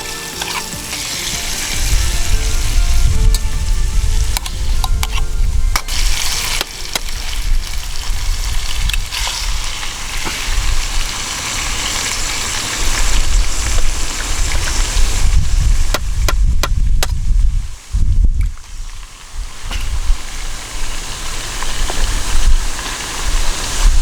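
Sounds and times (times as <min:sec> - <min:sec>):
food sizzling over wood fire: 0:00.0 - 0:24.0.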